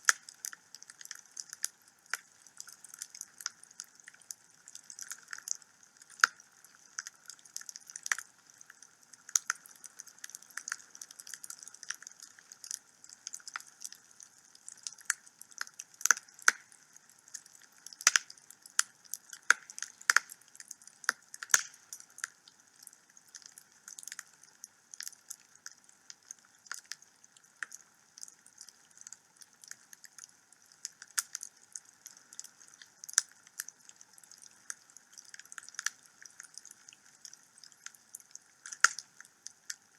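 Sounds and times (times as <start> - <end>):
wood fire crackling and popping: 0.0 - 27.0, 27.6 - 39.8.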